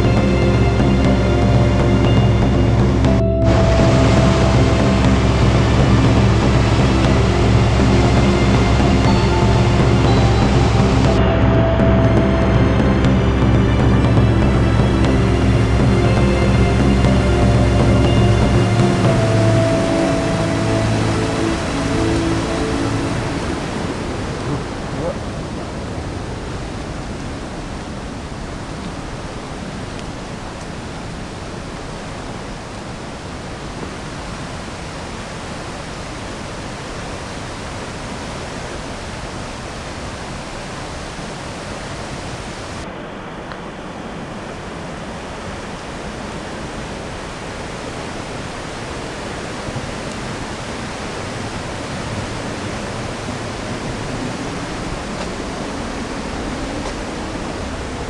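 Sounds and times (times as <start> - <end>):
wind rushing on microphone: 0.0 - 58.0.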